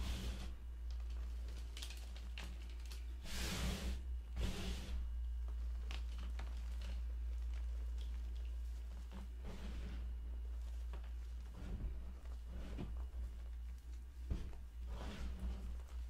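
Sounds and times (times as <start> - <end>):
hands rustling powdered chalk: 0.0 - 16.0
steady low hum: 0.0 - 16.0.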